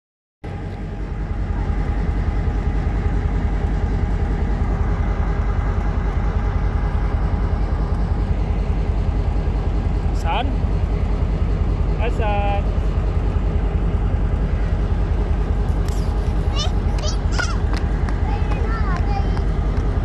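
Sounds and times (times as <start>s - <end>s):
diesel locomotive engine running: 0.4s - 20.0s.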